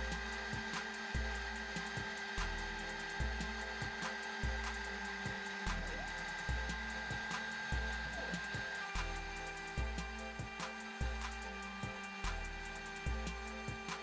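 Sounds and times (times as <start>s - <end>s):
music with deep pulsing bass: 0.0s - 14.0s.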